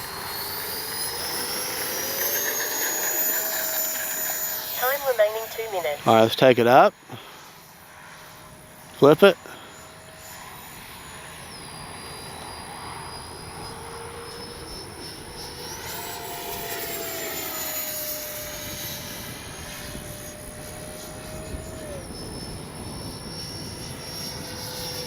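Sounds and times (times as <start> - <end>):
electric ducted fan whining: 0.0 - 25.0.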